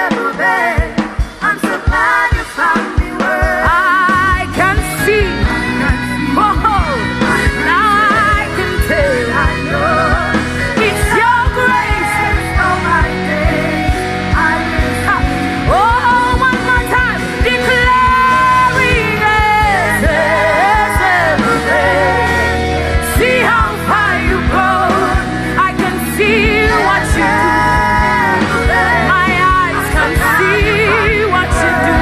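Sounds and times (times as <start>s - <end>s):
band with drums and keyboard: 0.0s - 32.0s
female vocal group singing: 0.0s - 32.0s.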